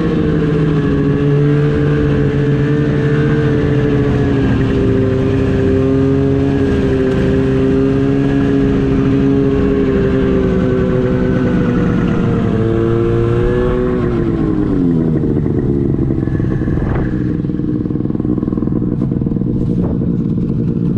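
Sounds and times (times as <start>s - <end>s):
snowmobile engine: 0.0s - 20.9s.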